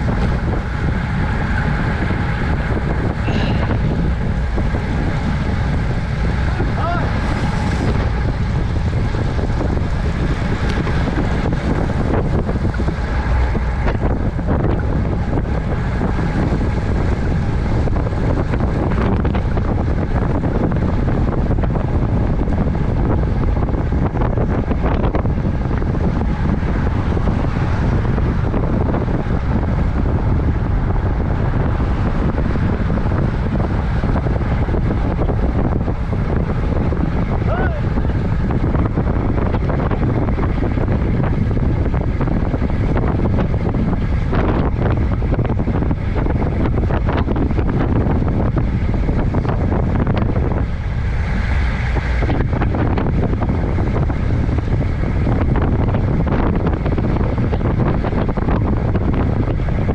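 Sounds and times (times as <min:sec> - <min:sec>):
low vehicle rumble: 0:00.0 - 0:59.9
wind rushing over microphone: 0:00.0 - 0:59.9.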